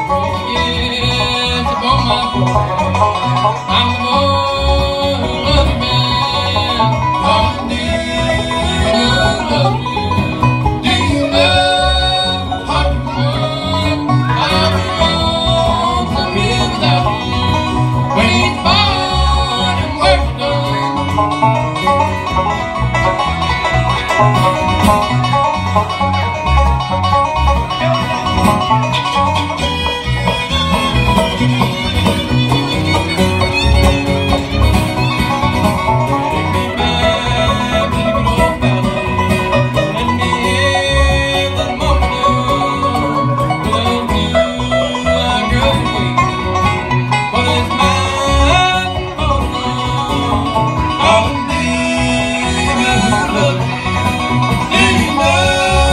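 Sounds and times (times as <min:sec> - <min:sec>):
fiddle: 0:00.0 - 0:55.9
plucked bass line: 0:00.0 - 0:55.9
strummed acoustic guitar: 0:00.0 - 0:55.9.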